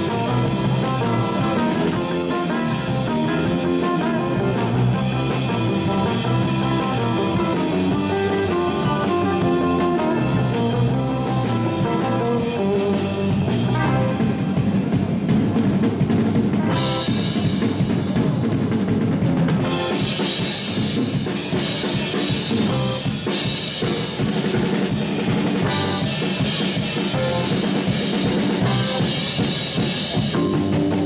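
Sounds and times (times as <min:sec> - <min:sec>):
drum kit: 0:00.0 - 0:31.0
electric bass: 0:00.0 - 0:31.0
electric guitars: 0:00.0 - 0:31.0.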